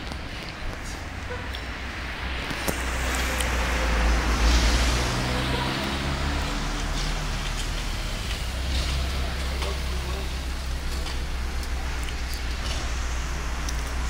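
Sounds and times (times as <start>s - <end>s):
low rumble of traffic: 0.0s - 14.0s
car passing and accelerating: 0.8s - 14.0s.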